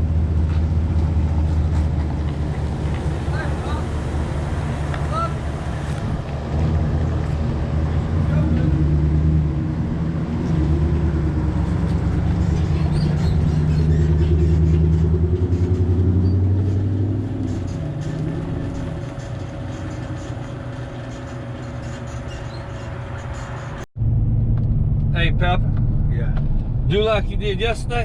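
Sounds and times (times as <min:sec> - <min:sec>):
road noise: 0:00.0 - 0:28.0
vehicle engine under load: 0:00.0 - 0:28.0.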